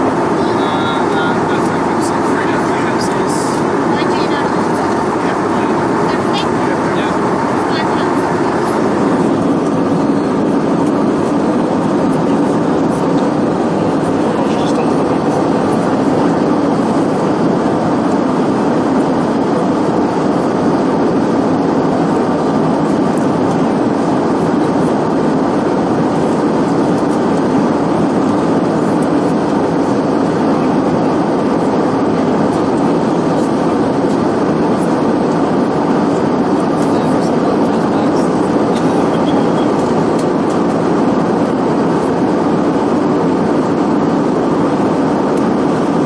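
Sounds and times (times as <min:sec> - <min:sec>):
aircraft cabin engine drone: 0:00.0 - 0:46.0.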